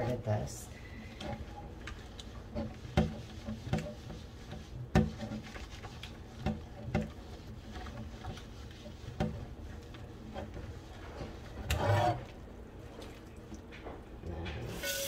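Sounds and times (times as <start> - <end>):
scrubbing pan in soapy water: 0.0 - 13.4, 14.7 - 15.0.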